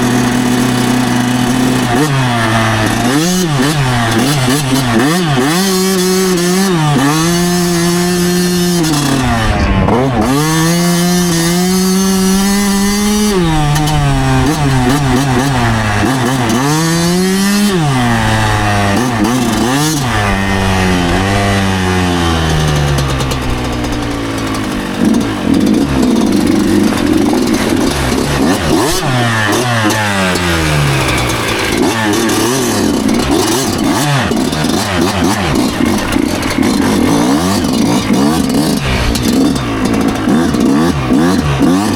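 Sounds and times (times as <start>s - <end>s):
two-stroke engine revving: 0.0s - 41.9s.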